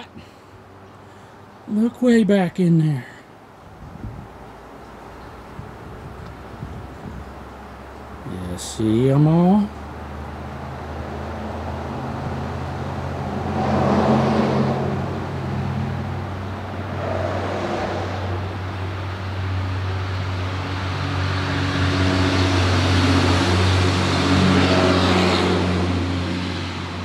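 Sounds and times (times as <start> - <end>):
traffic noise: 0.0 - 27.0
vehicle engine humming: 0.0 - 27.0.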